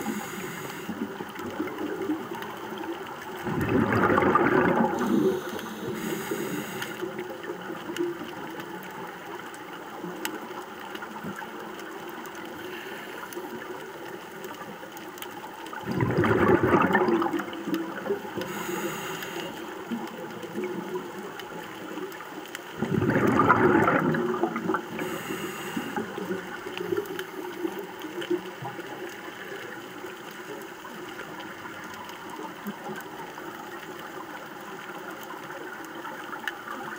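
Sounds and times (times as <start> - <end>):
faint hiss and crackling: 0.0 - 36.9
underwater exhaled bubbles rushing: 0.0 - 36.9.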